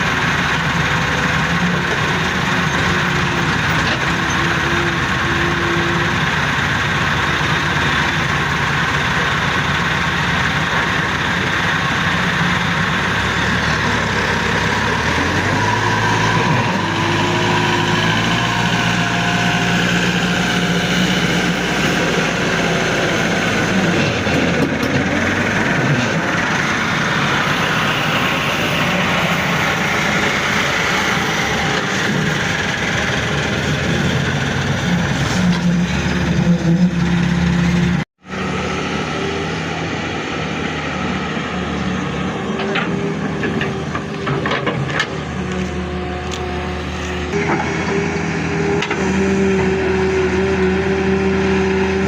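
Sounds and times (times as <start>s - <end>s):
heavy diesel engines running: 0.0s - 52.0s.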